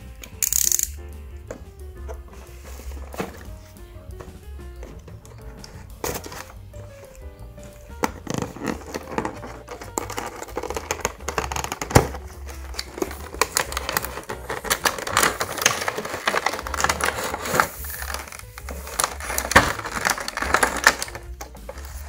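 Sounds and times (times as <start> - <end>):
plastic blister tray crinkling: 0.0 - 22.0
cardboard packaging opened: 2.0 - 3.8, 4.8 - 22.0.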